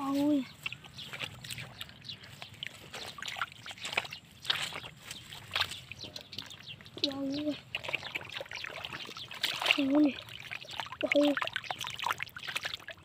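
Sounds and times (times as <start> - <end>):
shallow water splashing: 0.5 - 13.0.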